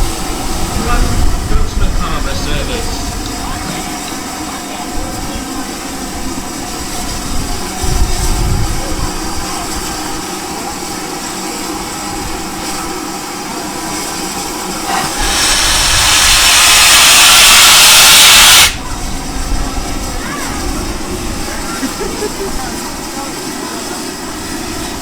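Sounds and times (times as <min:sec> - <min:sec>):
steam hissing: 0:00.0 - 0:25.0
steam locomotive rumbling: 0:00.0 - 0:25.0.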